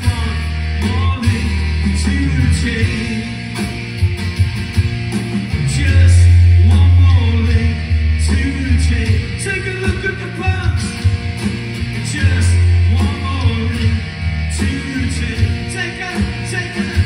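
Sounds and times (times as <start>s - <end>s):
guitar strummed hard: 0.0s - 17.0s
pulsing bass: 0.0s - 17.0s.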